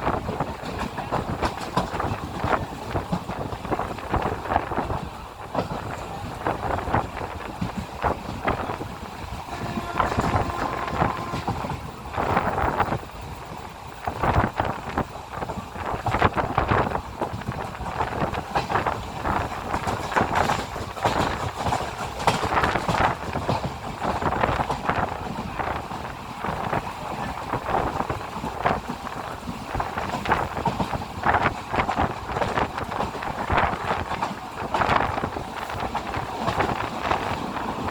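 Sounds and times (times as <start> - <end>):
fast train running: 0.0 - 37.9
wind buffeting microphone: 0.0 - 37.9.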